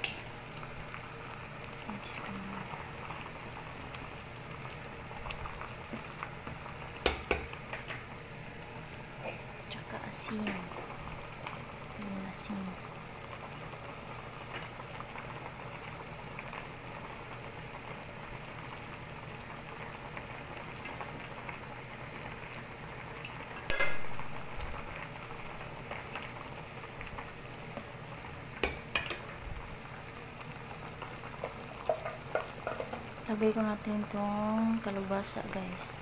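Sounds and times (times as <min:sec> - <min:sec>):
soup boiling and bubbling: 0:00.0 - 0:36.0.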